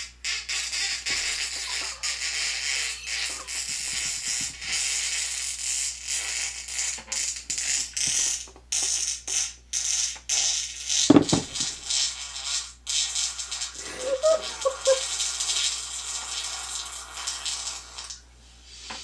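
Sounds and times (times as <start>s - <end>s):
fart sound effects from phone speaker: 0.0s - 18.2s.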